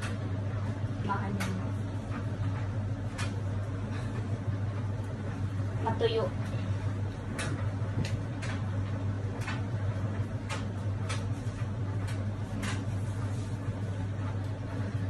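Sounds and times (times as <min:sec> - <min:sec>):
tumble dryer humming: 0:00.0 - 0:15.0.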